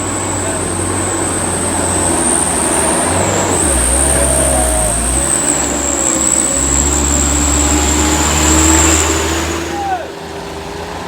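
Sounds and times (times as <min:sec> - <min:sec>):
high-pitched whine: 0:00.0 - 0:09.7
truck engine droning: 0:00.0 - 0:11.0.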